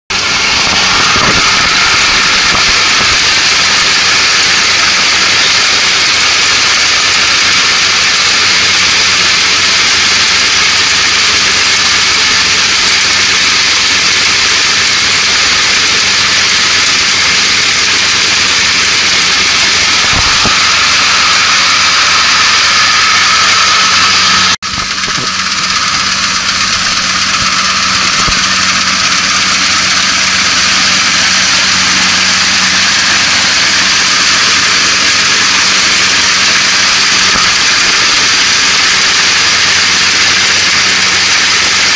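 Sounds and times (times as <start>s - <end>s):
combine harvester running: 0.1s - 41.9s
steady high whine: 0.1s - 41.9s.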